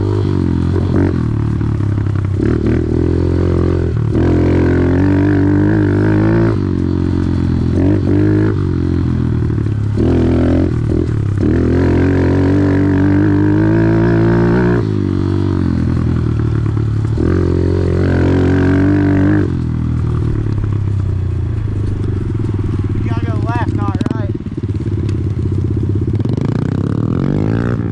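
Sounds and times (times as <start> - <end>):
off-road vehicle engine revving: 0.0 - 25.2, 26.0 - 27.9.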